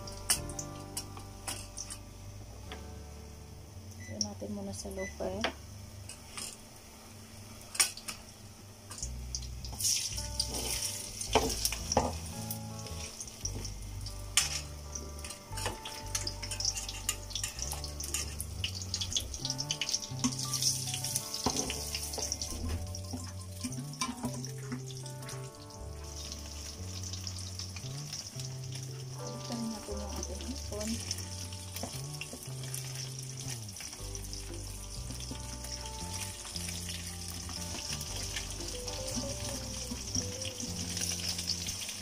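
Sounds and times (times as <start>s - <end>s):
prawns sizzling in oil: 0.0s - 2.5s, 4.8s - 42.0s.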